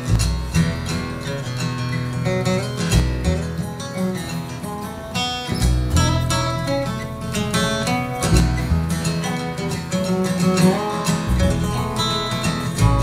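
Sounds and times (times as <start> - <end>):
plucked upright bass: 0.0 - 4.8, 5.5 - 13.0
lap slide guitar: 0.0 - 13.0
strummed acoustic guitar: 0.0 - 13.0.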